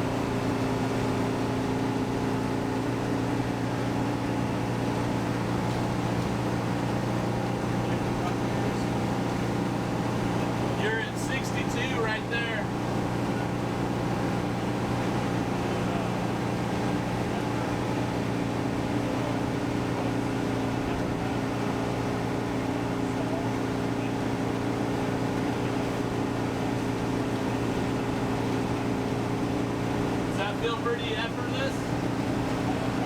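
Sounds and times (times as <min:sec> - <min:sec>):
van engine droning: 0:00.0 - 0:33.0.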